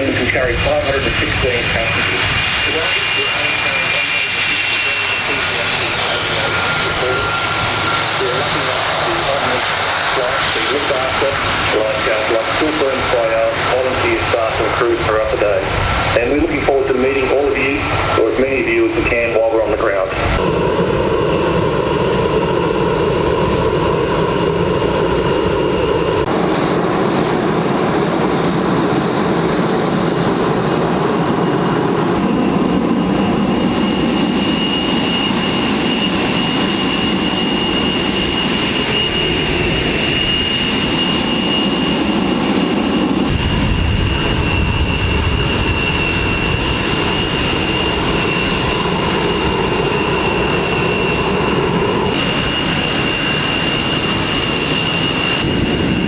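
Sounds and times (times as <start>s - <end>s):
high engine whine: 0.0s - 56.0s
jet engines roaring: 0.0s - 56.0s.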